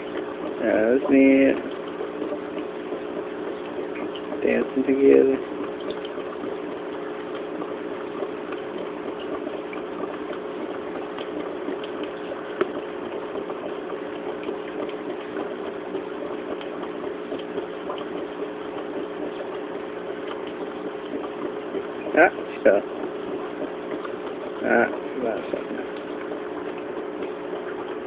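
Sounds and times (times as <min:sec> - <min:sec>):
aquarium pump hum: 0:00.0 - 0:28.0
bubbling water: 0:00.0 - 0:28.0.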